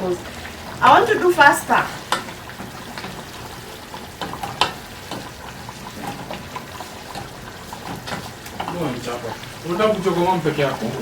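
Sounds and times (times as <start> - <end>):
stew sizzling in a pot: 0.0 - 11.0.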